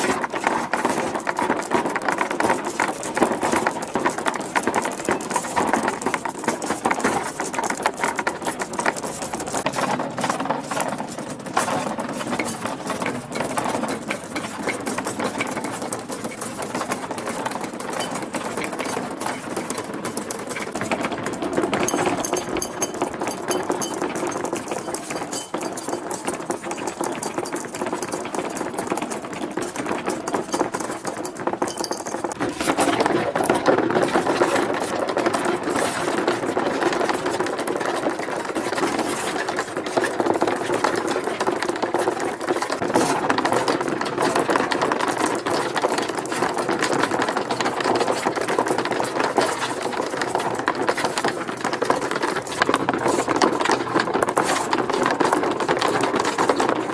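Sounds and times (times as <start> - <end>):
marbles clattering down plastic ramps: 0.0 - 56.9.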